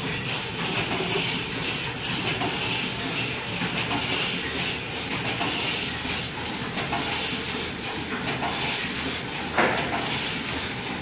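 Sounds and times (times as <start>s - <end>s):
packing machine hissing: 0.0s - 11.0s.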